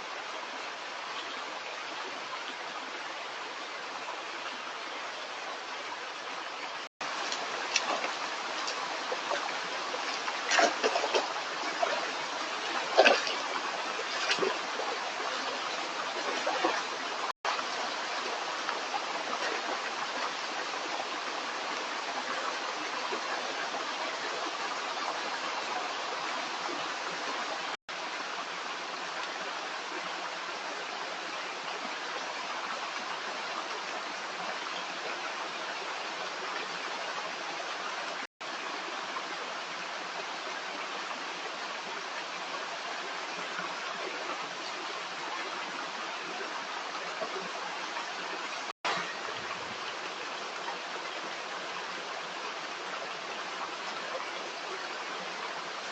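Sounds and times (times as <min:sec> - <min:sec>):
running water flowing: 0:00.0 - 0:55.9
water splashes: 0:05.3 - 0:55.9.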